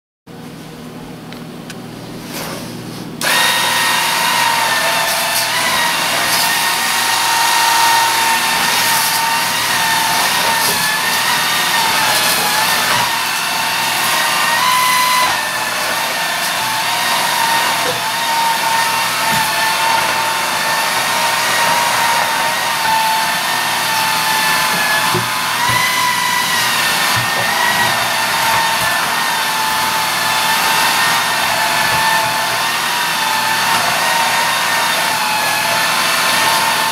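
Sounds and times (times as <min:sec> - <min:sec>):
stick vacuum cleaner whine: 0:02.3 - 0:36.9.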